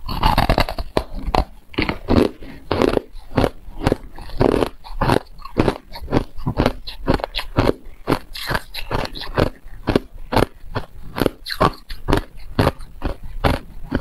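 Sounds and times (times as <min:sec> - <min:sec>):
crushed ice being chewed: 0:00.0 - 0:14.0.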